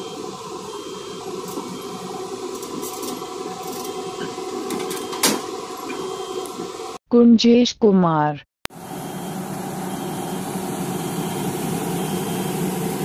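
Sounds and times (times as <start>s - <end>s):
excavator engine and hydraulics: 0.0s - 7.0s, 8.7s - 13.0s.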